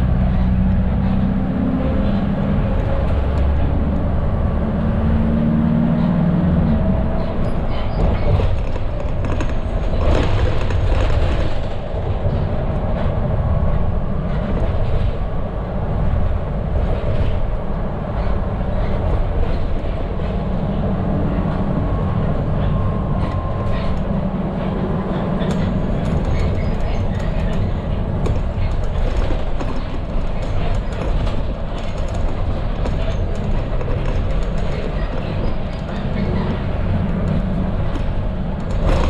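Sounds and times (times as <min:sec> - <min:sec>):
engine and road rumble: 0:00.0 - 0:39.0.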